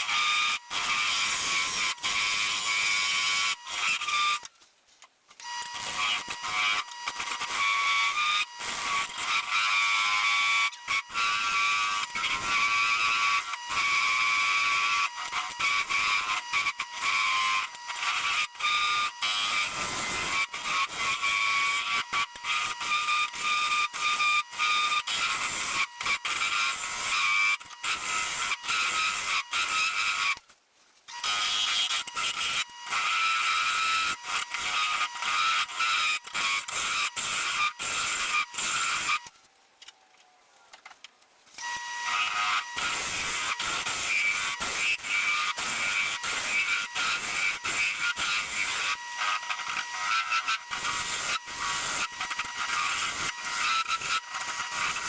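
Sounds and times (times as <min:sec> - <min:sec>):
wood lathe whining: 0:00.0 - 0:04.5, 0:05.4 - 0:30.4, 0:31.1 - 0:39.3, 0:41.6 - 0:55.0.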